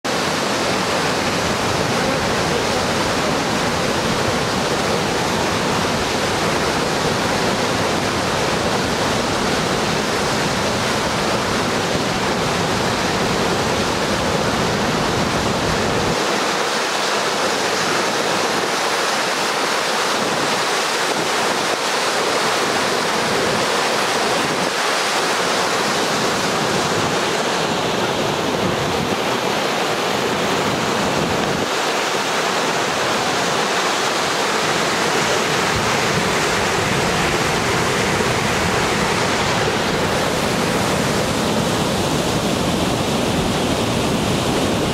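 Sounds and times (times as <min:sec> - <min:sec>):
roar of white water: 0:00.0 - 0:44.9.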